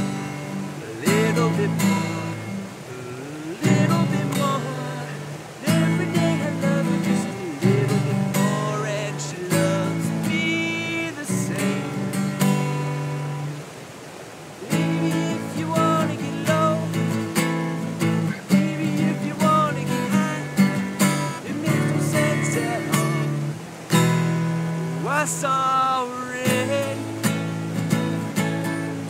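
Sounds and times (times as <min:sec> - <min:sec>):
acoustic guitar strumming: 0:00.0 - 0:13.7, 0:14.6 - 0:29.0
stream rushing: 0:00.0 - 0:29.0
man singing: 0:00.6 - 0:13.1, 0:14.6 - 0:17.4, 0:18.0 - 0:23.6, 0:25.0 - 0:27.4.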